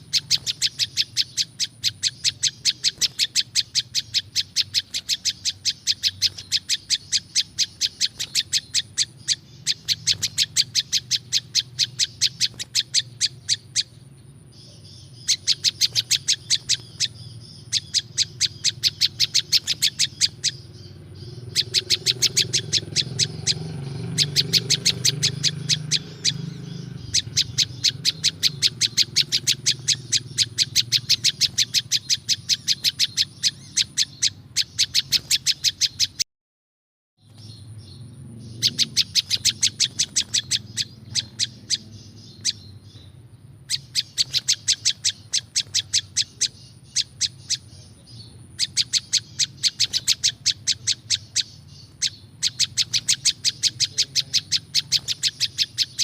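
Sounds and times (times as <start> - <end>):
songbird singing sharp high notes: 0.0 - 36.2, 37.2 - 56.0.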